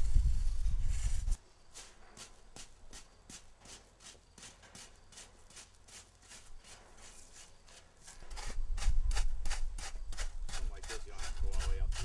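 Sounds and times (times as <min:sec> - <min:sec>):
hand tool scraping asphalt: 0:00.8 - 0:12.0.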